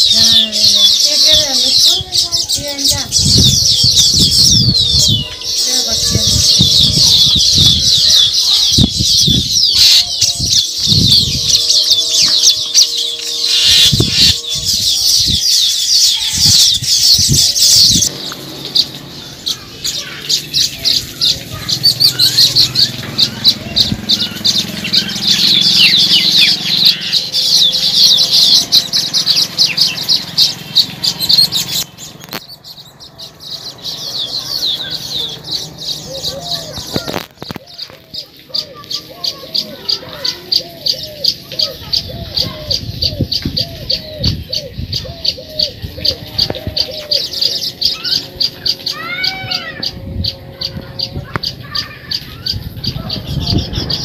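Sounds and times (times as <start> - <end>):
birds chattering chorus: 0.0 - 54.0.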